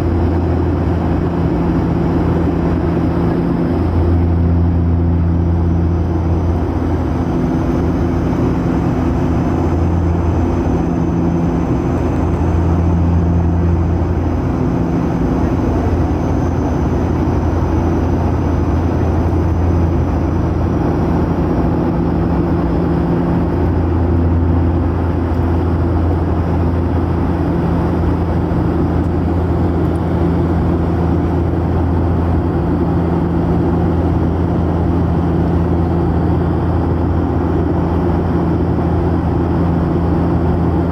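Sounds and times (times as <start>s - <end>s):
propeller aeroplane engine drone: 0.0s - 40.9s.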